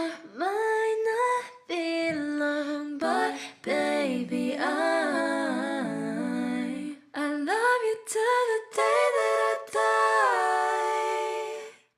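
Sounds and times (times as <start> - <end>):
women singing unaccompanied: 0.0 - 11.9.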